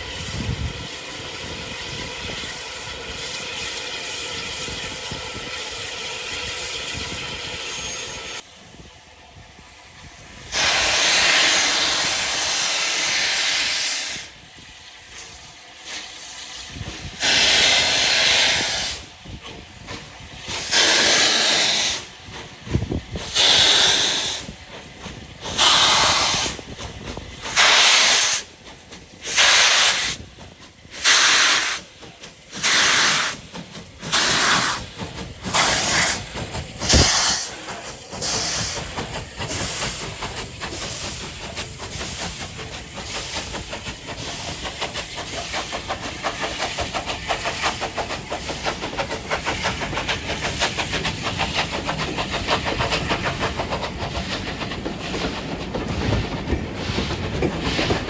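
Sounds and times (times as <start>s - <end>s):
steam locomotive exhaust chuffs: 0.0s - 58.0s.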